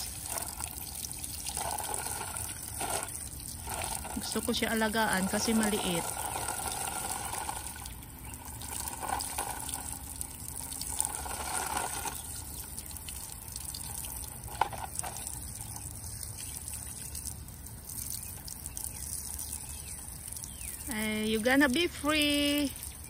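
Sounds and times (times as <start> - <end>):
water pouring and splashing: 0.0 - 23.0.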